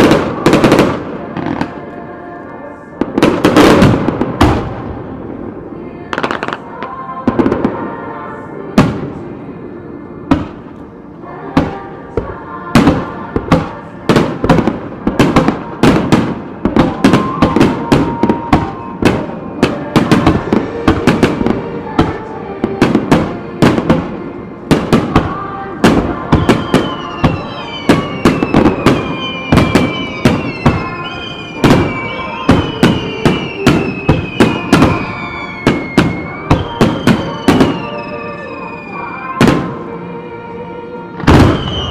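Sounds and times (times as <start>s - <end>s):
fireworks bursting: 0.0s - 2.1s, 3.0s - 9.4s, 10.1s - 40.0s, 41.2s - 41.9s
music playing: 0.0s - 41.9s.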